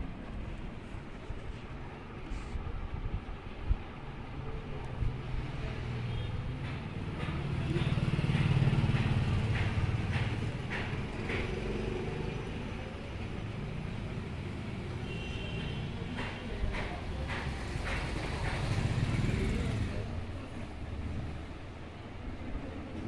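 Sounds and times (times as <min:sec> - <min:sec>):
motor traffic rumble: 0:00.0 - 0:23.0.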